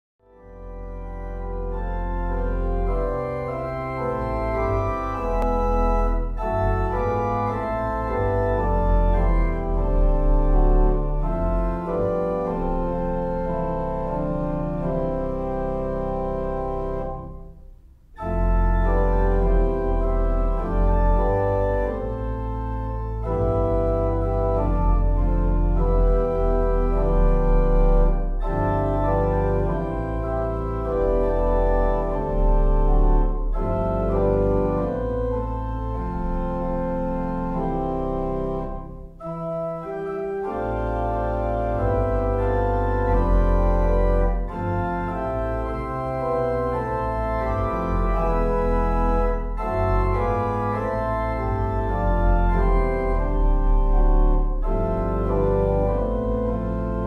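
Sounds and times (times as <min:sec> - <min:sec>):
organ playing slow chords: 0:00.2 - 0:57.0.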